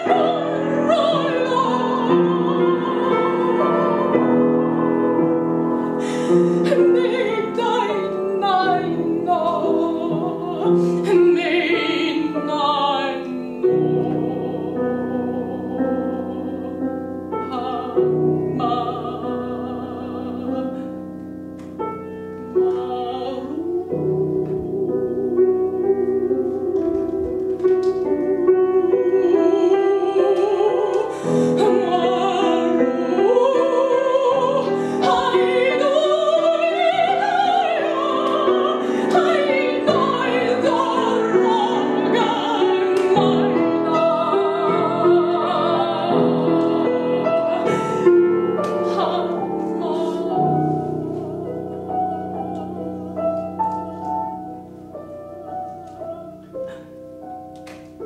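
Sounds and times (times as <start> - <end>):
woman singing operatically: 0.0 - 21.0, 22.5 - 54.4
piano accompaniment: 0.0 - 58.0.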